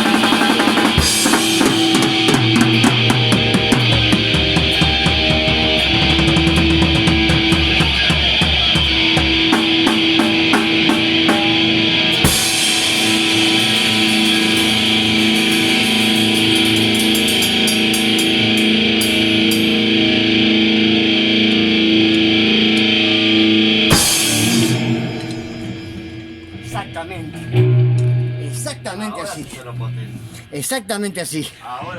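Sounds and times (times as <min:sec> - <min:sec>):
drums and cymbals: 0:00.0 - 0:20.0, 0:23.9 - 0:30.5
cymbal crash: 0:00.0 - 0:30.5
distorted electric guitar: 0:00.0 - 0:30.9.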